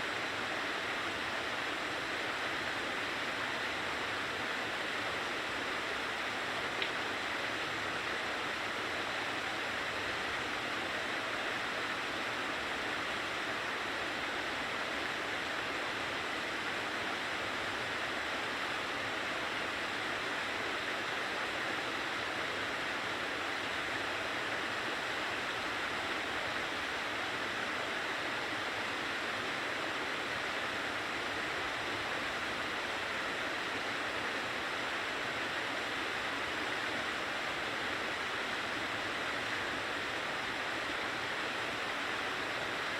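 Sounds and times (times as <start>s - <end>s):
water cascading over rocks: 0.0s - 42.9s.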